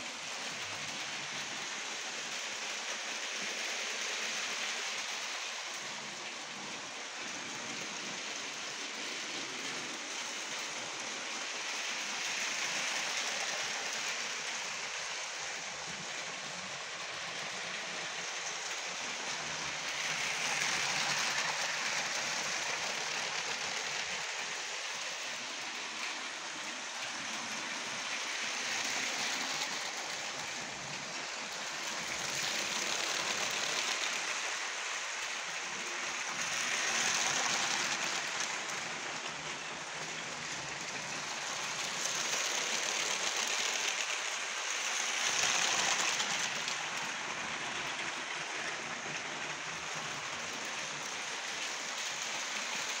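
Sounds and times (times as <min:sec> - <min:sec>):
toy train rattling whir: 0:00.0 - 0:53.0.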